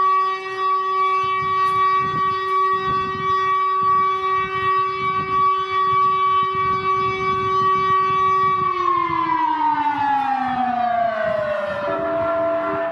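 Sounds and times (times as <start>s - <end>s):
civil defense siren: 0.0s - 12.9s.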